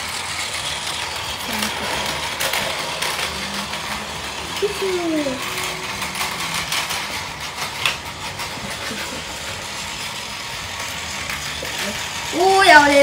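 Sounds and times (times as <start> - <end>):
toy train motor whir: 0.0 - 13.0.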